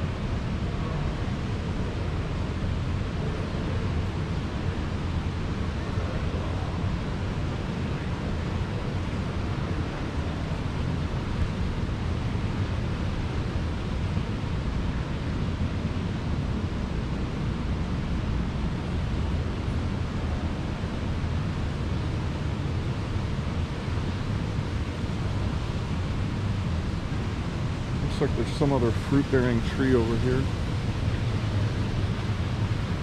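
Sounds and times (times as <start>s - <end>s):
steady rushing background noise: 0.0s - 33.0s.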